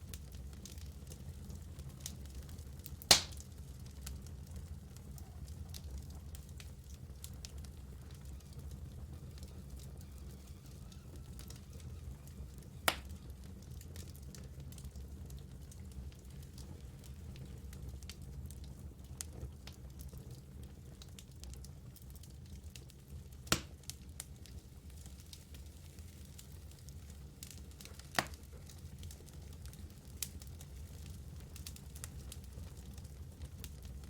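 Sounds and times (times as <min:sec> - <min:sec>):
fire popping: 0:00.0 - 0:34.0
wood fire crackling: 0:00.0 - 0:34.0.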